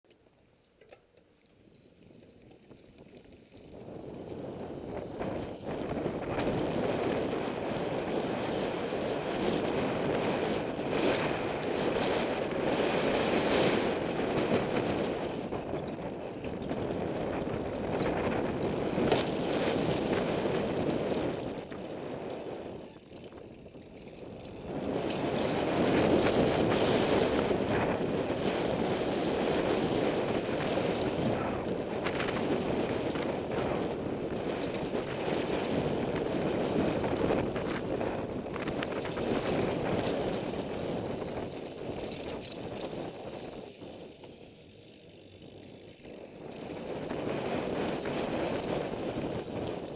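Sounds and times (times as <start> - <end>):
mountain bike tyre and frame noise: 0.0 - 49.9
wind rushing over microphone: 2.7 - 49.9.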